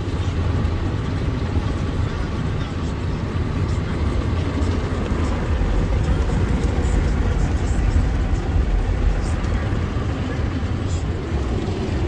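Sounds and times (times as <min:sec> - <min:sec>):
low rumble: 0:00.1 - 0:12.0.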